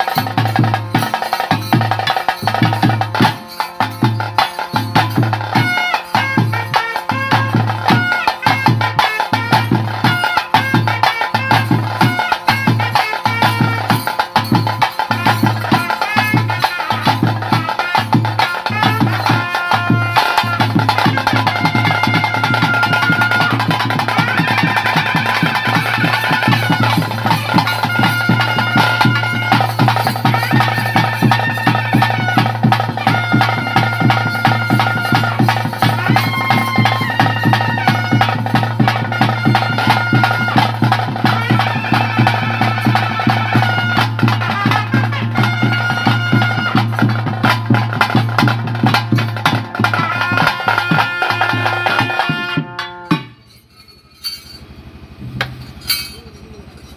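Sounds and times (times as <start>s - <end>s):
fast dense drumming: 0.0s - 53.4s
reed pipe melody: 0.0s - 54.9s.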